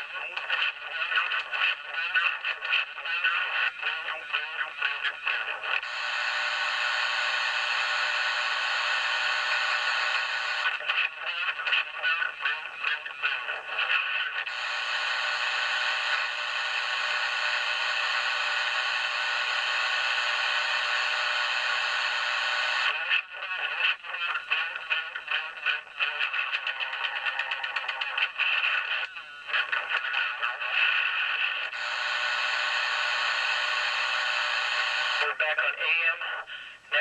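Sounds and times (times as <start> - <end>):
radio static hiss: 0.0 - 26.8, 27.6 - 37.0.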